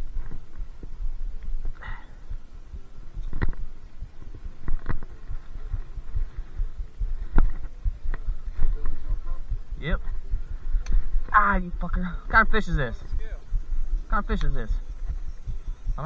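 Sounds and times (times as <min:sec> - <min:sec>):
camera microphone jostling rumble: 0:00.0 - 0:16.0.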